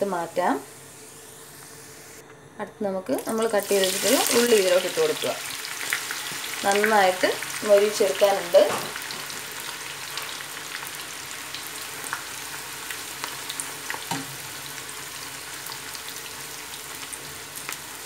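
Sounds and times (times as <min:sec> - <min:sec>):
onions sizzling in hot oil: 0:03.2 - 0:18.0.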